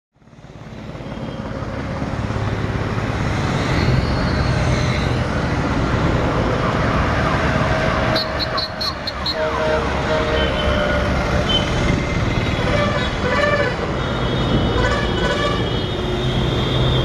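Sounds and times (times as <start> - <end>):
heavy diesel engine rumbling: 0.9 - 17.0.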